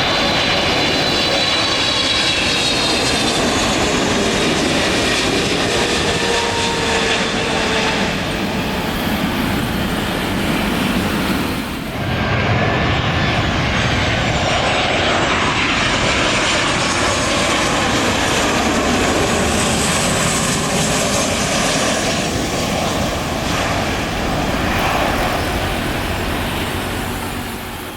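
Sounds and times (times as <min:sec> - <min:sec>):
jet engines rushing and whining: 0:00.0 - 0:27.9.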